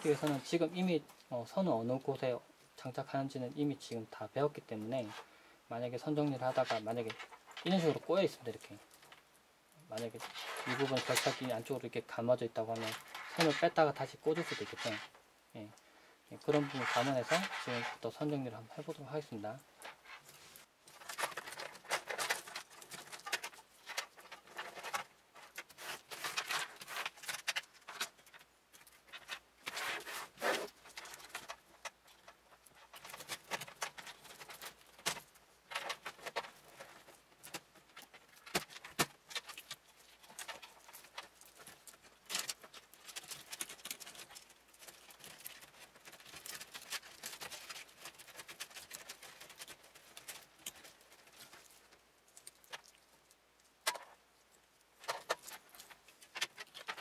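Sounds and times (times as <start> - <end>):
computer cables rustling and scraping: 0.0 - 0.9, 4.8 - 57.0.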